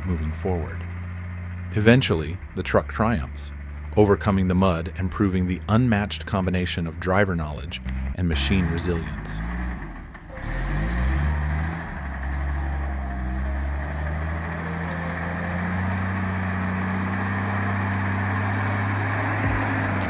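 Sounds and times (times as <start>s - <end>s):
truck engine under load: 0.0s - 20.0s.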